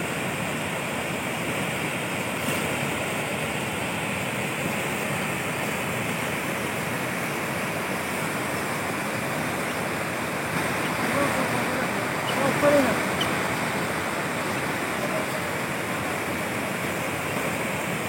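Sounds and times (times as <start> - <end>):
steady rushing noise: 1.2 - 18.0.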